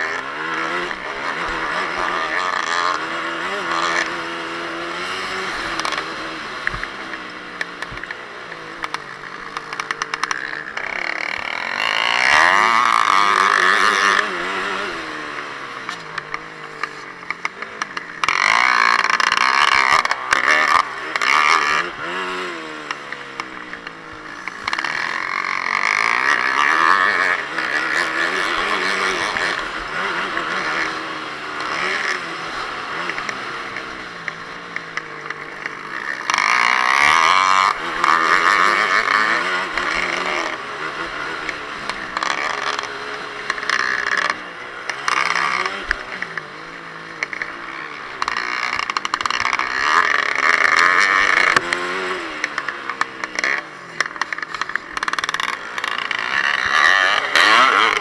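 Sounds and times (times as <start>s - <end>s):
dirt bike engine revving: 0.0s - 58.0s
rattle noise: 0.0s - 58.0s.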